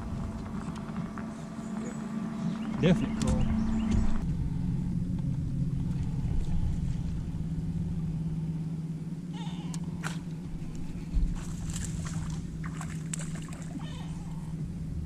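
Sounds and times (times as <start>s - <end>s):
electric trolling motor humming: 0.0s - 15.0s.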